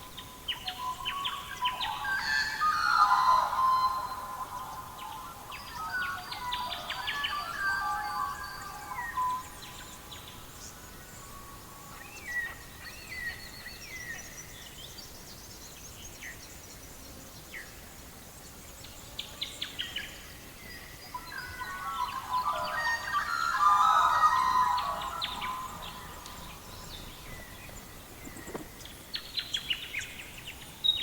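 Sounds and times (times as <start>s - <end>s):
faint steady hiss: 0.0s - 31.0s
songbirds chirping: 0.0s - 31.0s.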